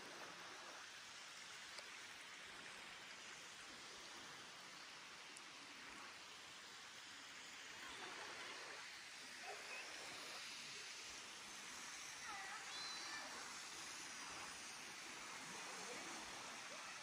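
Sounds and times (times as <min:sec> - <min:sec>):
waterfall and stream hiss: 0:00.0 - 0:17.0.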